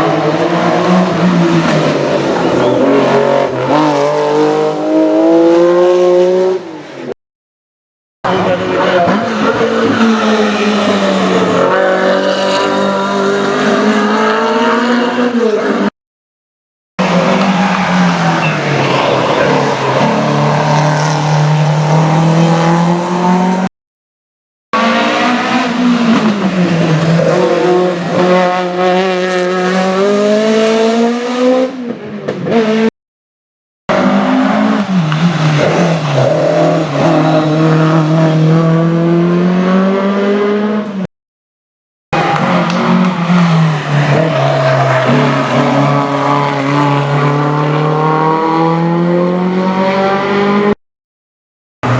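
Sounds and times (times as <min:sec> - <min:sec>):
rally car engine revving: 0:00.0 - 0:07.1, 0:08.2 - 0:15.9, 0:17.0 - 0:23.7, 0:24.8 - 0:32.9, 0:33.9 - 0:41.1, 0:42.2 - 0:50.8.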